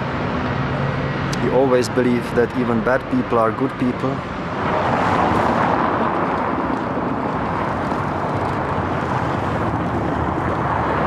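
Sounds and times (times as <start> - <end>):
cars driving on cobblestones: 0.0 - 11.0.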